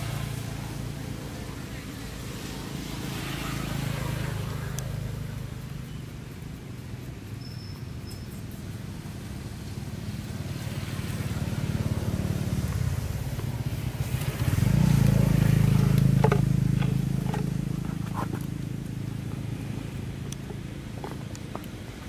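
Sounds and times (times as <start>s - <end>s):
vehicle engine passing: 0.0s - 7.3s, 8.4s - 22.0s.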